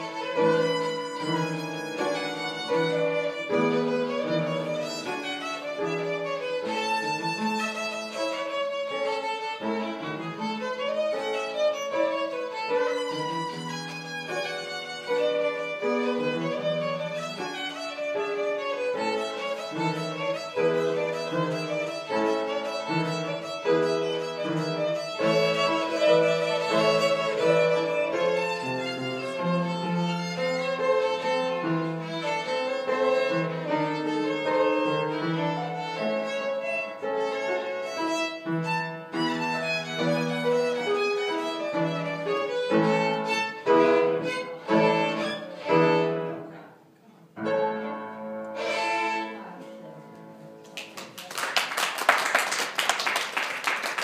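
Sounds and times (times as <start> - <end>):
violin playing a tune: 0.0 - 50.4.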